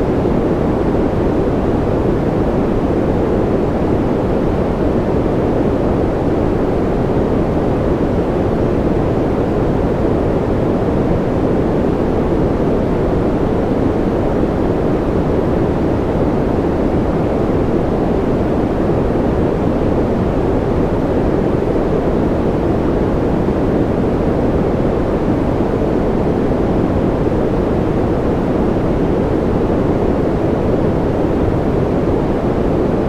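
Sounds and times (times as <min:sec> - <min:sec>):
deep white noise: 0:00.0 - 0:33.0.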